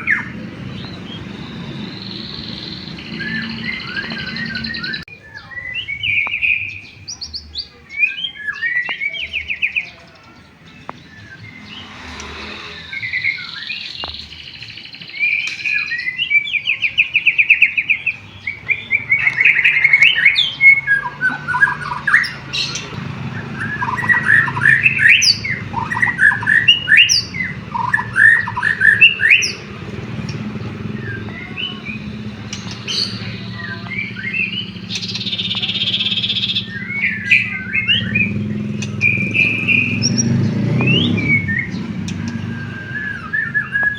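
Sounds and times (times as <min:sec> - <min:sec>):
bird singing whistles and trills: 0:00.0 - 0:43.9.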